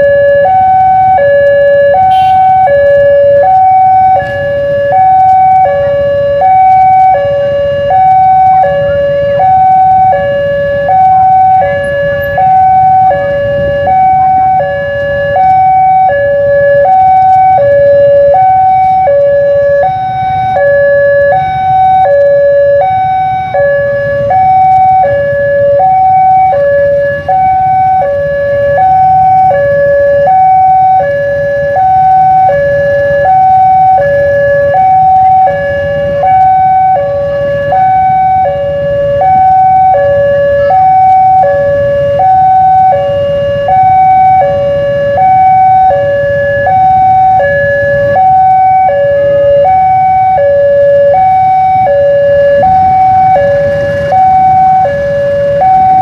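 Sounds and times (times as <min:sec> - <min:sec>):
level-crossing alarm two-tone signal: 0:00.0 - 0:56.0.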